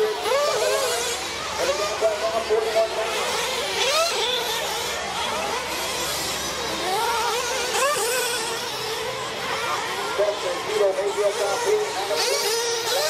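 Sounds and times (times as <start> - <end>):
rc truck engines revving: 0.0 - 13.0.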